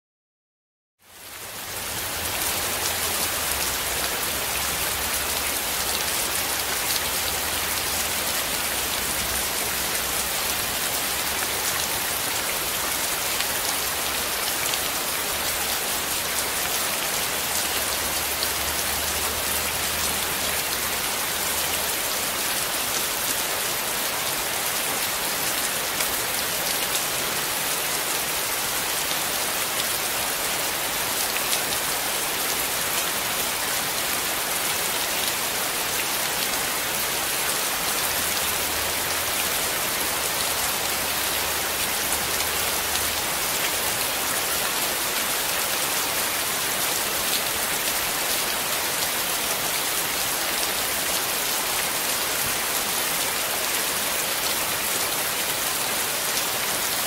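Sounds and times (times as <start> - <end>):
steady rain hiss: 1.0 - 57.0.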